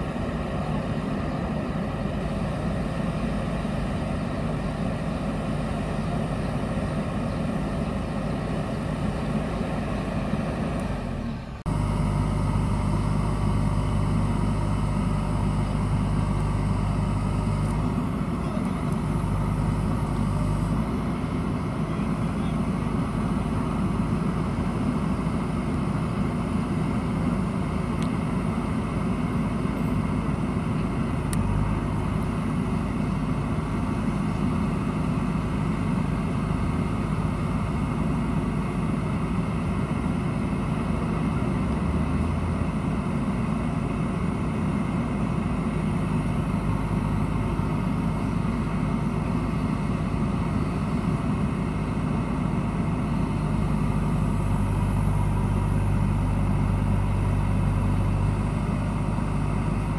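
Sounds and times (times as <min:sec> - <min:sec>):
diesel engine running at low revs: 0:00.0 - 0:59.9.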